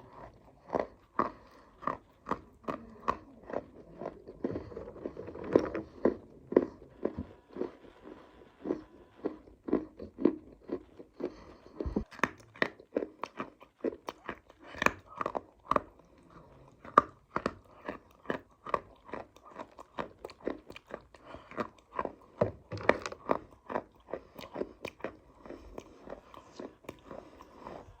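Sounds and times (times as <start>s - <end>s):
chewing crunchy dry clay: 0.0s - 28.0s.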